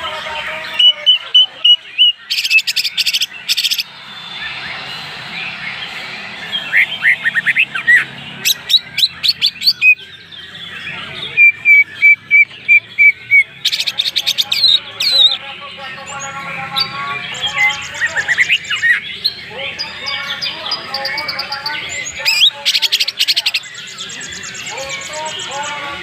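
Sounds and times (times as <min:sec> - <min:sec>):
bird singing varied song: 0:00.0 - 0:26.0.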